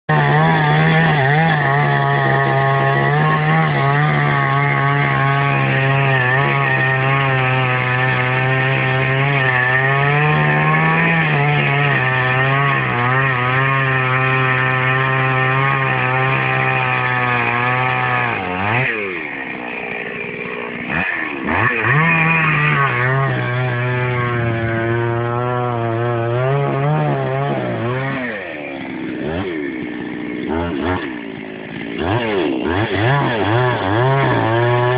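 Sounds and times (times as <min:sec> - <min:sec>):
chainsaw cutting: 0:00.0 - 0:34.9.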